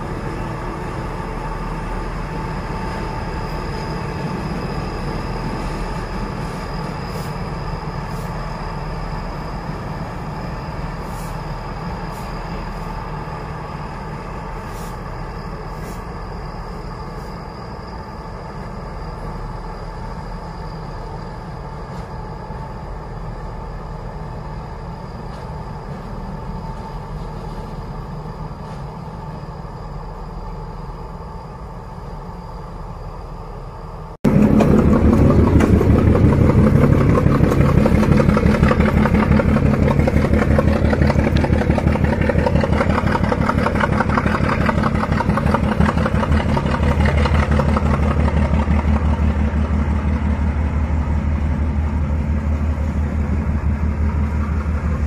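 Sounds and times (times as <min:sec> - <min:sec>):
locomotive engine droning in tunnel: 0:00.0 - 0:55.0
locomotive engine running close by: 0:00.0 - 0:55.0.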